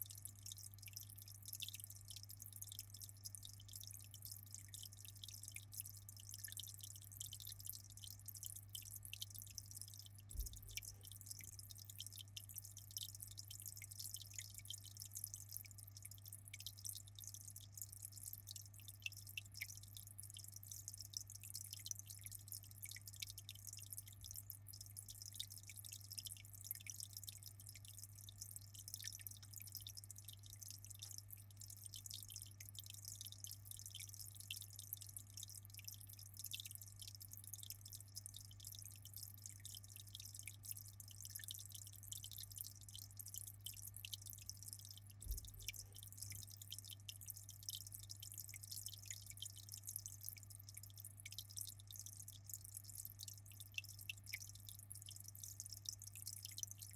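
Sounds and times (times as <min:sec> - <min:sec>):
aquarium water trickling and dripping: 0:00.0 - 0:56.9.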